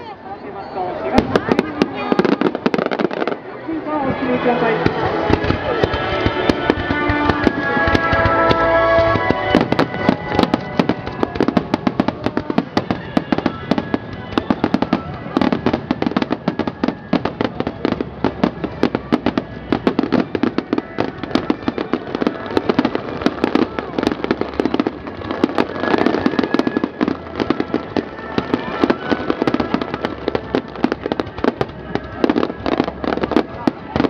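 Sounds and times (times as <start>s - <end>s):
fireworks popping and banging: 1.1s - 34.0s.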